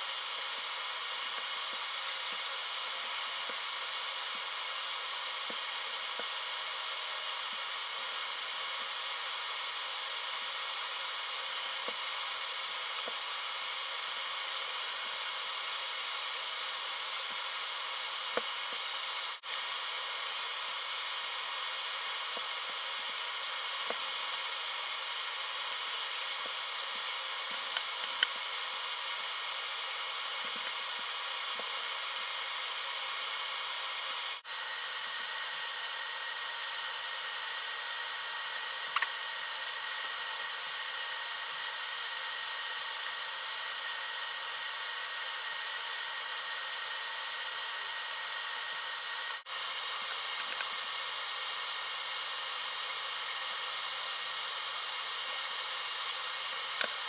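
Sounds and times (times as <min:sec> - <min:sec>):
steady fan hiss: 0:00.0 - 0:57.0.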